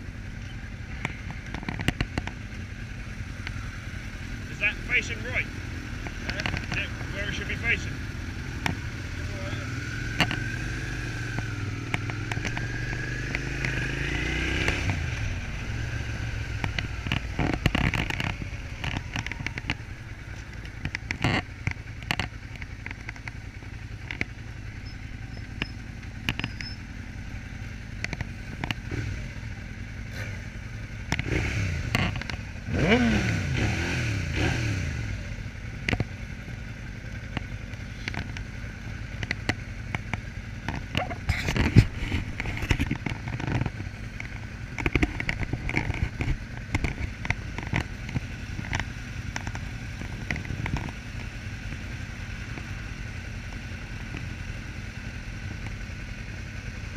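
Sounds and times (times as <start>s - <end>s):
motorcycle engine revving: 0.0s - 56.9s
sharp clicks and crackles: 0.3s - 7.8s, 8.5s - 9.1s, 10.1s - 13.9s, 14.5s - 32.6s, 35.6s - 56.9s.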